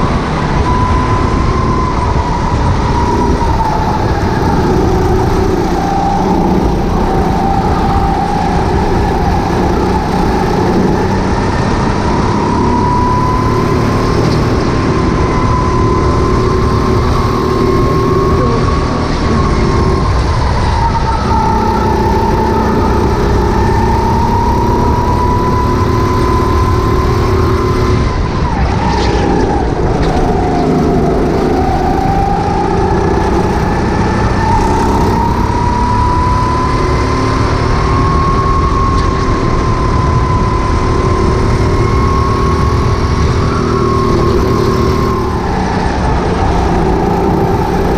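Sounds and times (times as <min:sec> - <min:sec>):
go-kart engine running hard: 0:00.0 - 0:47.9.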